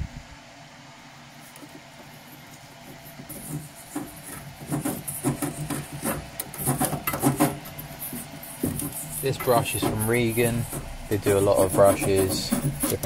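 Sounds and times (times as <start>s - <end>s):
brush rasping in metal: 2.3s - 13.0s.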